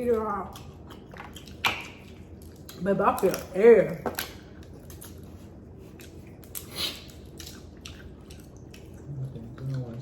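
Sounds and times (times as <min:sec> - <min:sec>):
seafood being chewed: 0:00.0 - 0:10.0.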